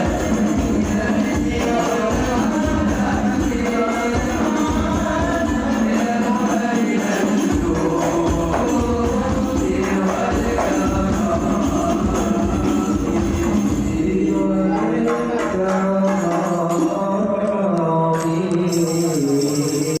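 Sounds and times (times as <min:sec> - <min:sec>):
frame drums with jingles: 0:00.0 - 0:20.0
voices singing praise chant: 0:00.0 - 0:20.0.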